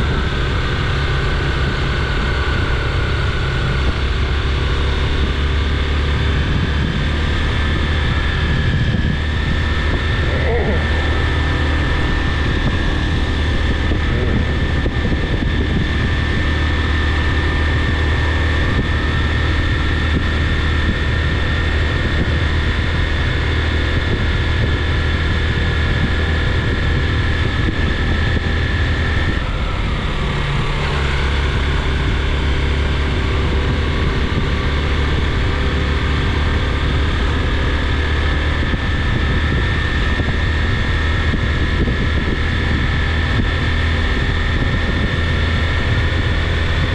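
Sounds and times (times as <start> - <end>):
vehicle engine and road drone: 0.0 - 46.9.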